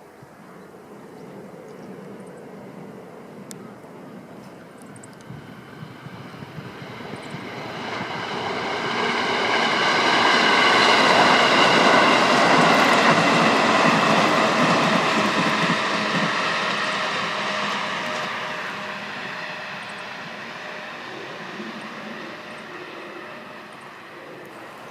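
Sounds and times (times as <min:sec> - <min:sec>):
multi-tone train whine: 0:00.0 - 0:24.9
electric train passing: 0:00.6 - 0:24.9.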